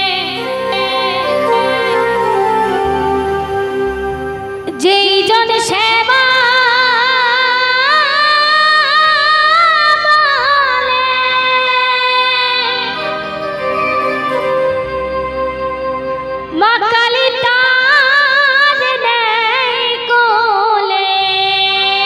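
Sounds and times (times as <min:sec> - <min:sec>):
woman singing into a microphone: 0:00.0 - 0:14.5, 0:16.5 - 0:22.0
keyboard holding steady notes: 0:00.0 - 0:20.6.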